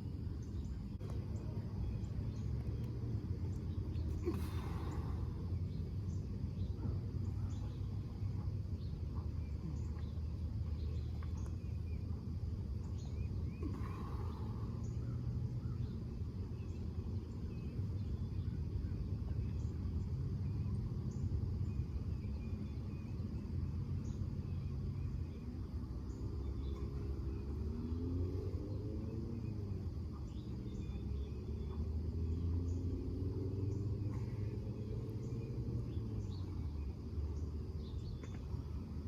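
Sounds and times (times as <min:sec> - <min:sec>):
faint bird chirps: 0:00.0 - 0:39.0
steady low rumble: 0:00.0 - 0:39.0.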